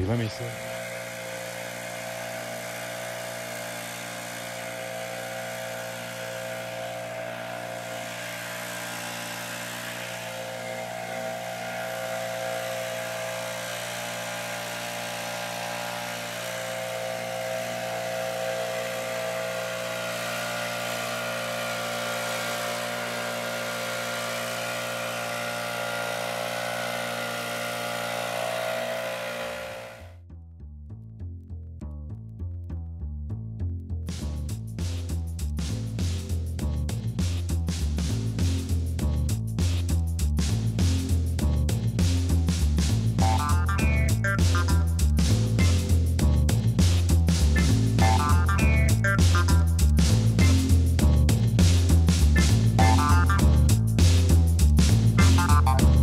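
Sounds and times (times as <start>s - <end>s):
leaf blower engine drone: 0.0s - 30.2s, 37.1s - 56.0s.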